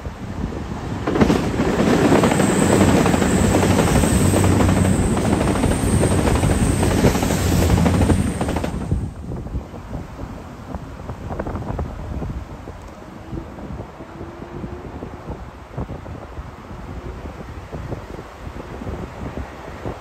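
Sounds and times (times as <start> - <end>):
diesel train engines droning: 0.0 - 20.0
train wheels on rails: 0.0 - 20.0.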